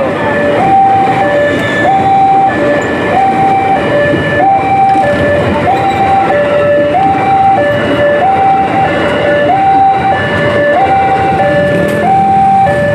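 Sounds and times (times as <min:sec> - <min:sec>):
electric train passing: 0:00.0 - 0:12.9
two-tone crossing alarm: 0:00.0 - 0:12.9.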